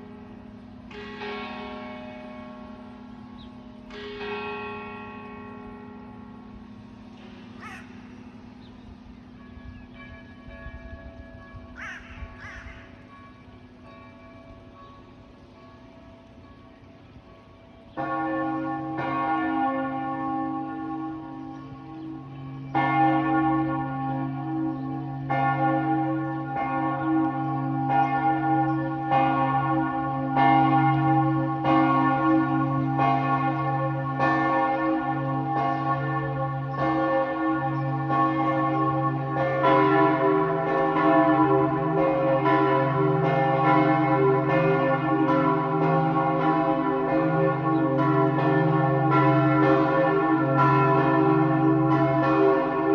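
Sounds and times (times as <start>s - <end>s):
large church bells pealing: 0.0s - 52.9s.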